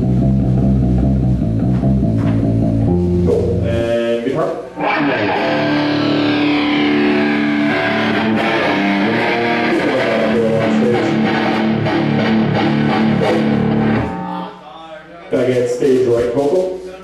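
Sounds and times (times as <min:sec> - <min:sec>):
electric guitar chords: 0:00.0 - 0:03.9, 0:04.7 - 0:14.6.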